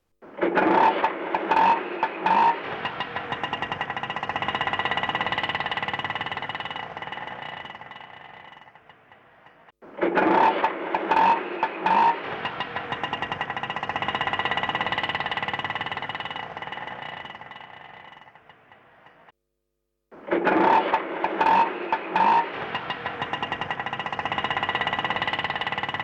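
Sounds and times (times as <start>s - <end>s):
small engine chugging: 0.6s - 19.3s, 20.3s - 26.0s.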